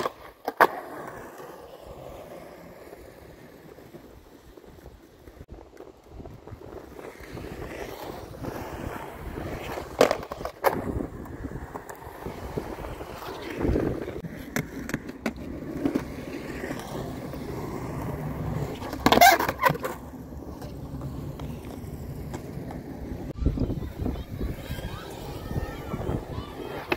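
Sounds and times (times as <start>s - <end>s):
skateboard clacking on ground: 0.0s - 26.9s
skateboard wheels rolling on concrete: 0.0s - 26.9s.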